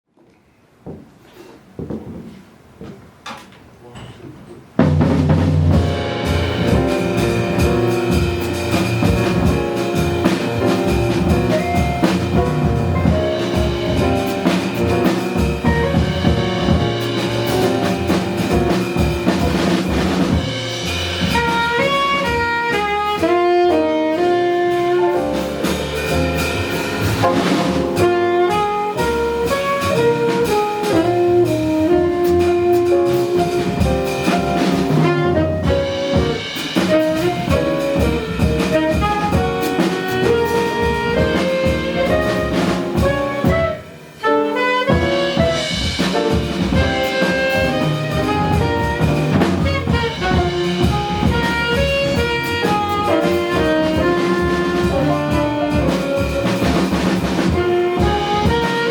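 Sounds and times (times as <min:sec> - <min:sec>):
drum kit and rhythm section: 0:00.9 - 0:58.9
saxophone melody: 0:05.7 - 0:26.8, 0:27.4 - 0:58.9.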